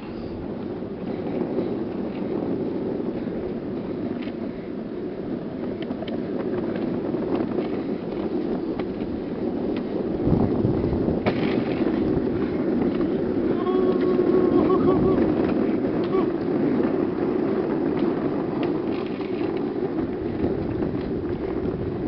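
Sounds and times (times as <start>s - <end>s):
caster wheels rolling on asphalt: 0.0s - 22.0s.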